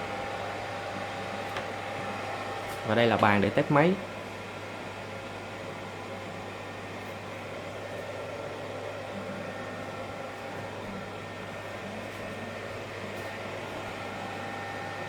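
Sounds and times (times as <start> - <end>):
fan whirring: 0.0 - 15.0.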